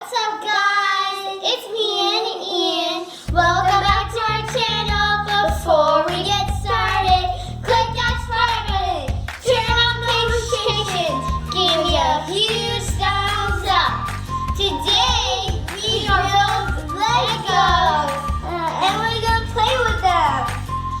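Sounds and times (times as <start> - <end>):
child singing: 0.0 - 20.7
bass-heavy backing track: 3.3 - 21.0.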